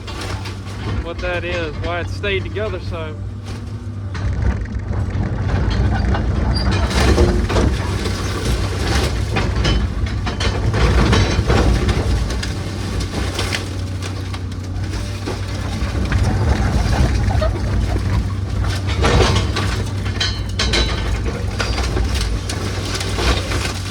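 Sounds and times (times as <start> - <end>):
heavy machine engine running: 0.0 - 23.9
wooden framing cracking and splintering: 0.0 - 23.9.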